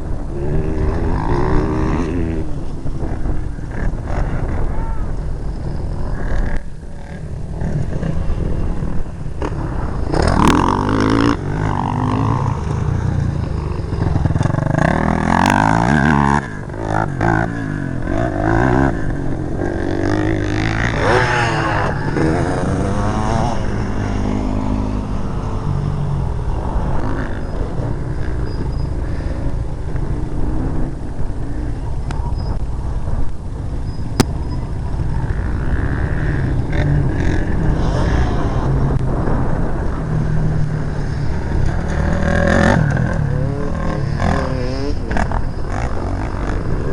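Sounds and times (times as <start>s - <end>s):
motocross bike engine revving: 0.0s - 31.9s, 33.6s - 46.9s.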